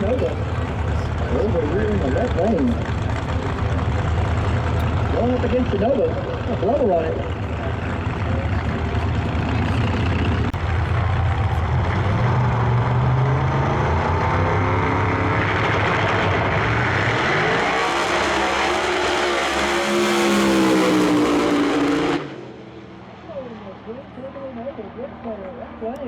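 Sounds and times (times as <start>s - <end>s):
drag car engines accelerating: 0.0s - 26.0s.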